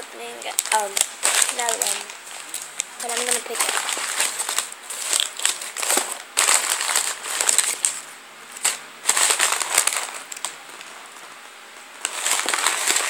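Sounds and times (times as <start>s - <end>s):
packaging crinkling and rustling: 0.3s - 13.0s.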